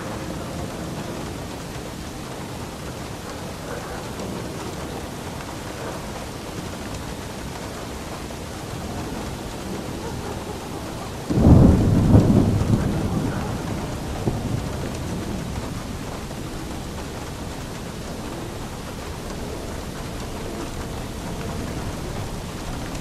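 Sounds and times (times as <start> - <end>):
steady rain: 0.0 - 23.0
thunder clap rumbling: 0.0 - 23.0.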